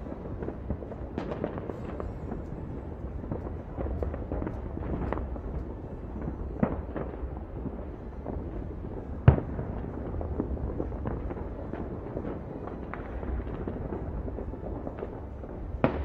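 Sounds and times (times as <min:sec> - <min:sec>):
distant fireworks popping: 0:00.0 - 0:16.0.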